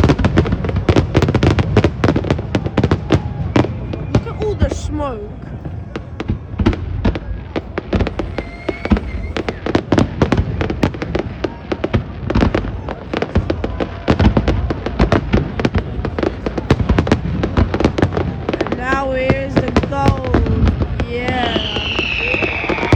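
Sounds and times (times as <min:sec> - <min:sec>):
fireworks cracks and bangs: 0:00.0 - 0:22.9.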